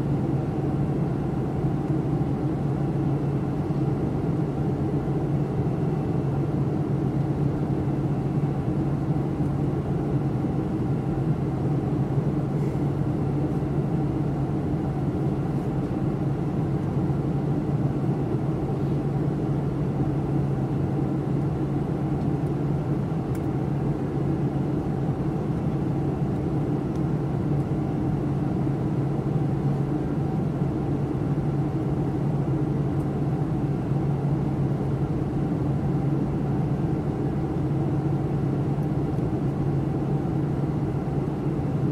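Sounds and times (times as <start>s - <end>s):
airliner cabin drone: 0.0s - 41.9s.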